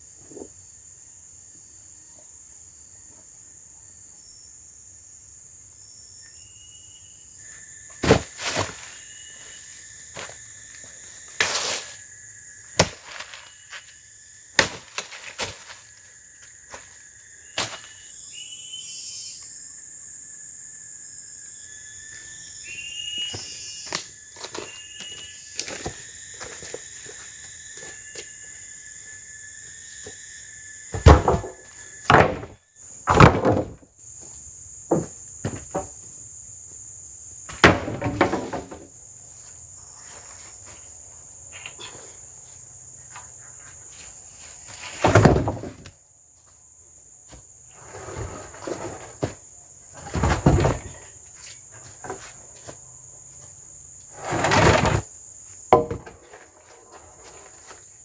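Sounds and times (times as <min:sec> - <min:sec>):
forest insects chirring: 0:00.0 - 0:58.0.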